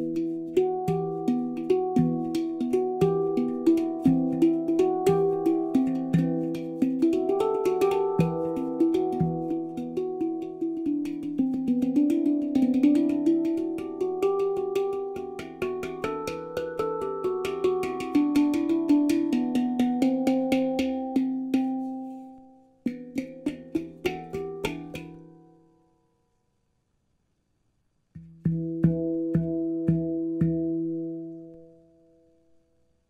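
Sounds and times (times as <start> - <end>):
handpan notes ringing: 0.0 - 25.7, 28.4 - 31.7.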